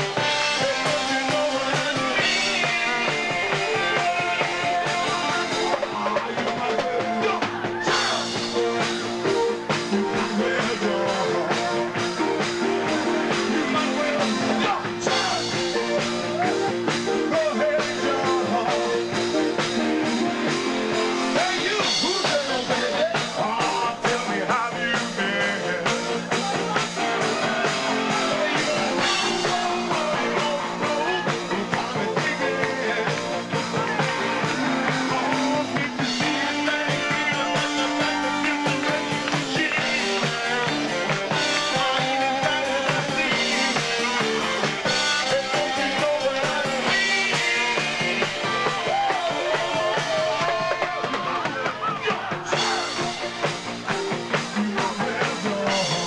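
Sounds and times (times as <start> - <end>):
lead singer singing: 0.0 - 56.0
live rock band playing: 0.0 - 56.0.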